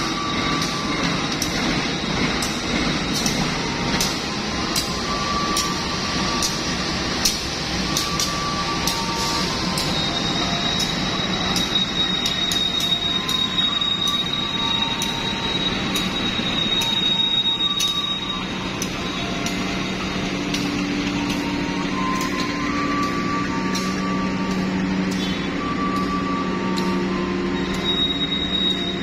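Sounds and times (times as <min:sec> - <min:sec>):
diesel locomotive idling: 0:00.0 - 0:29.0.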